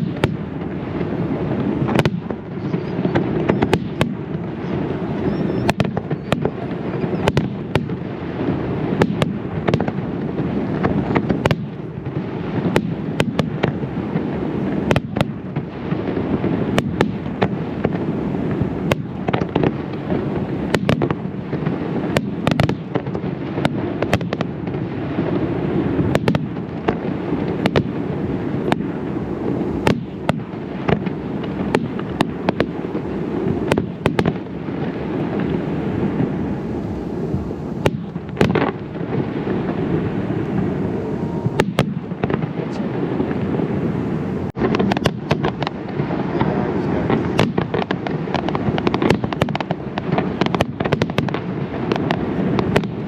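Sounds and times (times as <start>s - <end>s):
fireworks cracks and bangs: 0.0s - 53.0s
rumble of fireworks booms: 0.0s - 53.0s.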